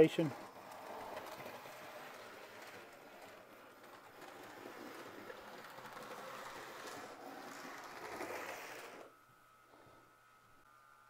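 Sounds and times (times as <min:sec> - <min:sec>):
wheels rumbling on rails: 0:00.0 - 0:09.0
model train motor whirring: 0:00.0 - 0:09.1.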